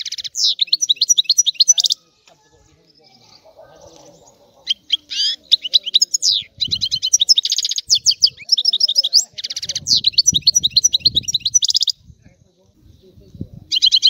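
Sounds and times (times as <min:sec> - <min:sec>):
goldfinch twittering song: 0:00.0 - 0:02.0, 0:03.0 - 0:12.0, 0:12.9 - 0:14.0.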